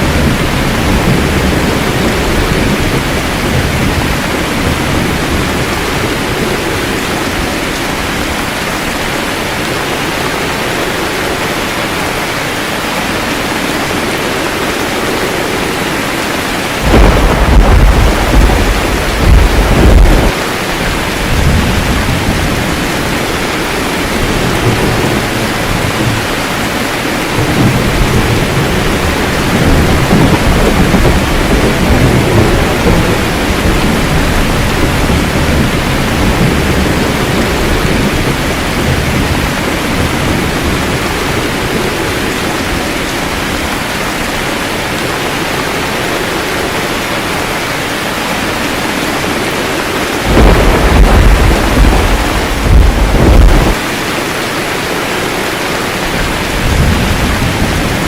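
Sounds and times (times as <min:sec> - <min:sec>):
thunder rumbling: 0:00.0 - 0:47.4, 0:48.2 - 0:54.2, 0:54.8 - 0:58.0
heavy rain: 0:00.0 - 0:58.0.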